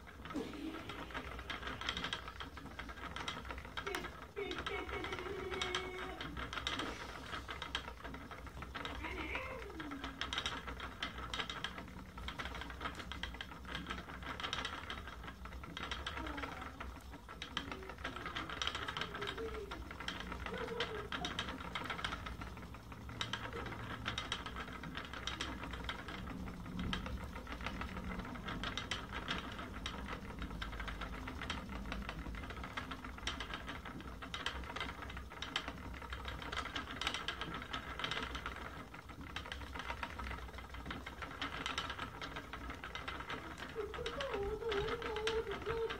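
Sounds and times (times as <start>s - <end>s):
spinning wheel clatter and whir: 0.0s - 45.9s.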